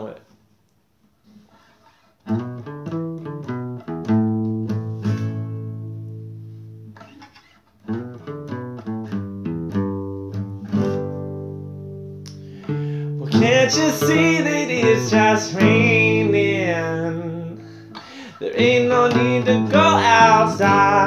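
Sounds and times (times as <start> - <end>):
fingerpicked acoustic guitar: 1.0 - 21.0.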